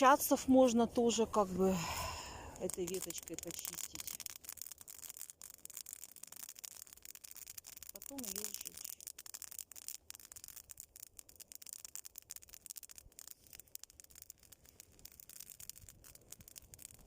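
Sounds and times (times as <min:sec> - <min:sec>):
bonfire crackling: 0:00.0 - 0:17.0.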